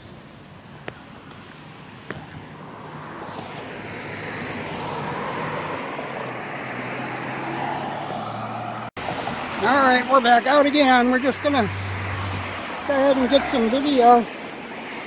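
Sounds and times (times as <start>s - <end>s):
car tyre noise and engine hum: 0.0s - 15.0s.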